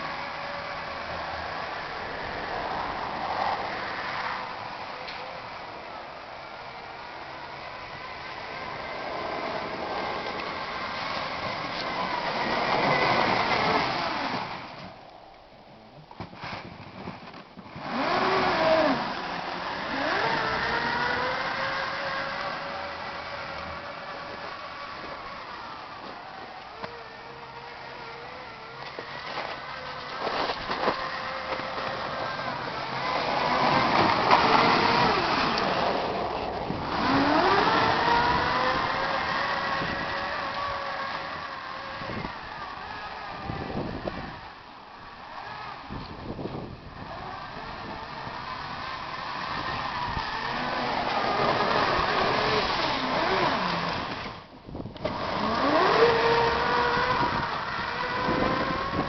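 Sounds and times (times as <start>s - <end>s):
electric snowmobile motor whining: 0.0s - 15.5s, 16.2s - 59.0s.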